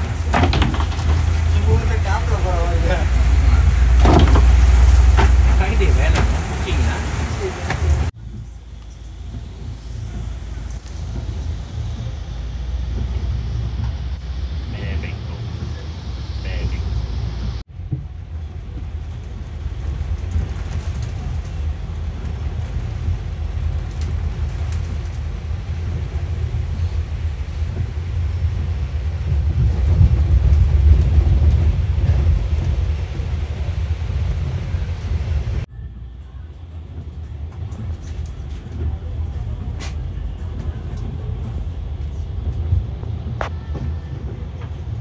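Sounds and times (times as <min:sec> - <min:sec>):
bus rumble from inside: 0:00.0 - 0:45.0
traffic noise: 0:00.0 - 0:45.0.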